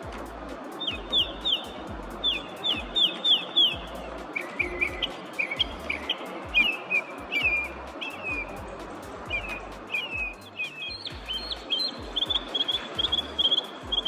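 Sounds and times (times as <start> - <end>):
mockingbird singing: 0.0 - 14.0.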